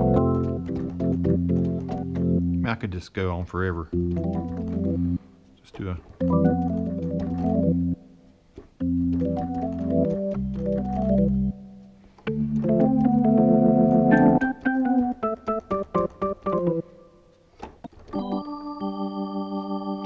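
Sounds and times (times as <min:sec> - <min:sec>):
keyboard playing organ chords: 0:00.0 - 0:03.0, 0:03.6 - 0:20.0.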